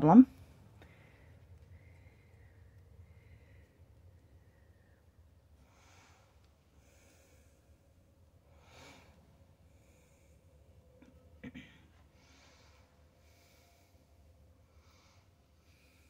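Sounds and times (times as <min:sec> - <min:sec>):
faint soft breaths: 0:00.4 - 0:16.0.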